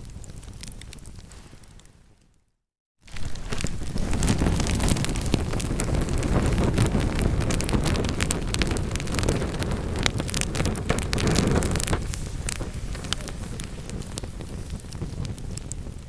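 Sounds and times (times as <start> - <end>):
logs crackling and popping: 0.0 - 2.3, 3.0 - 16.0
fire rumbling: 3.0 - 16.0.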